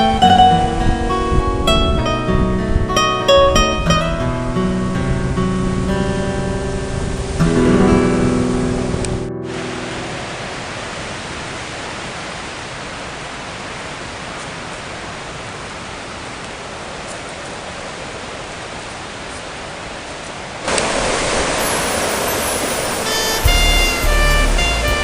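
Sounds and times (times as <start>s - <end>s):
waves on lakeshore: 0.0s - 25.0s
wind: 0.0s - 25.0s.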